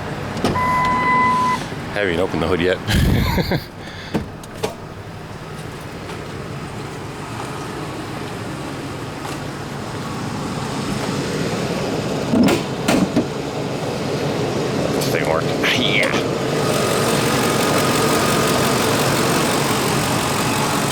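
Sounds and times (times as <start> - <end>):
vehicle engine humming: 0.0 - 20.9.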